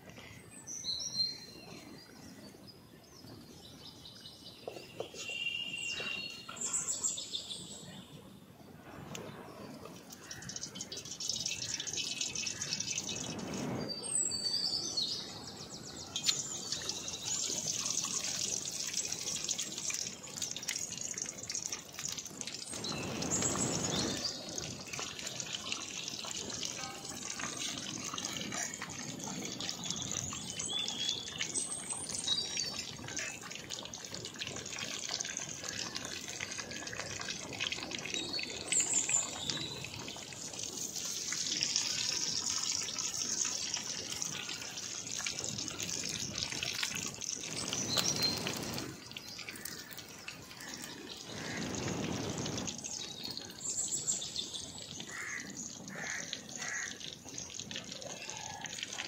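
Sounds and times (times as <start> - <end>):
deep-frying sizzle with crackles: 8.8 - 59.0.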